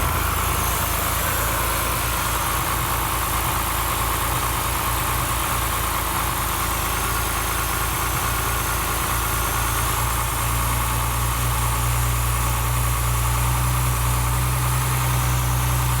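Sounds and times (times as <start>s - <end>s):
race engine idling: 0.0s - 16.0s.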